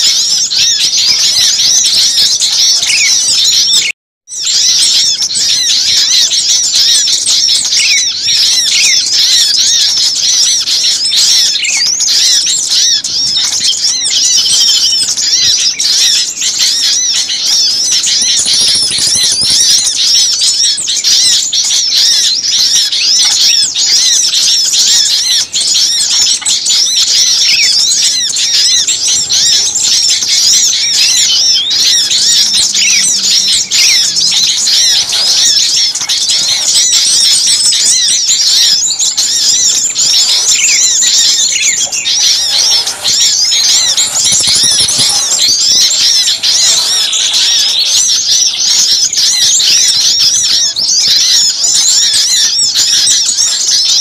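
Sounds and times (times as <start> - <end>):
chorus of small songbirds chirping: 0.0 - 54.0.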